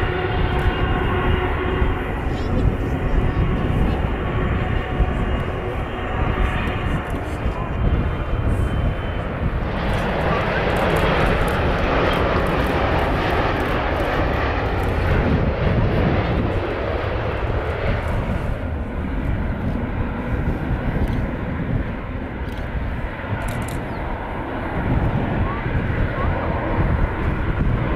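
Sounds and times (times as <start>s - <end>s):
jet airliner passing: 0.0s - 27.9s.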